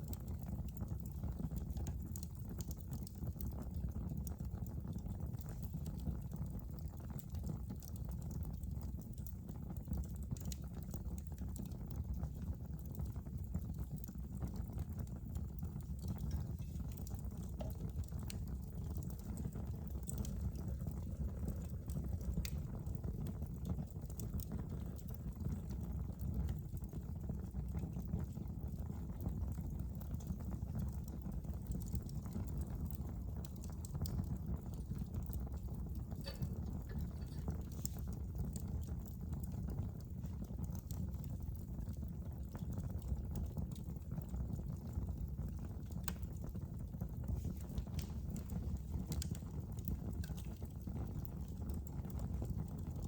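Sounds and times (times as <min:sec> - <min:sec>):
fire crackles and pops: 0:00.0 - 0:53.0
fireplace flames rumbling: 0:00.0 - 0:53.0.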